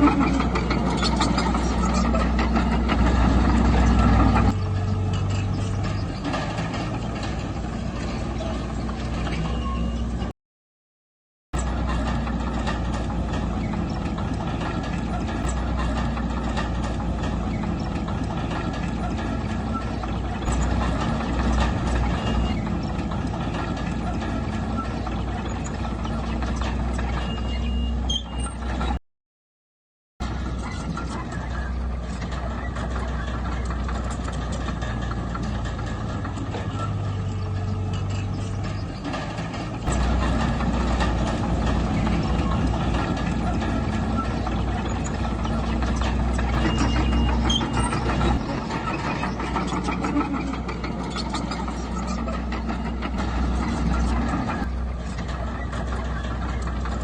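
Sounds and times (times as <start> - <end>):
diesel machinery engine clattering: 0.0 - 10.3, 11.6 - 29.0, 30.2 - 57.0.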